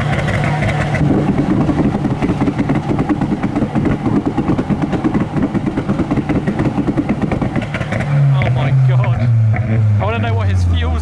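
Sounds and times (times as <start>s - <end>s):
loud car exhaust pulsing: 0.0s - 11.0s.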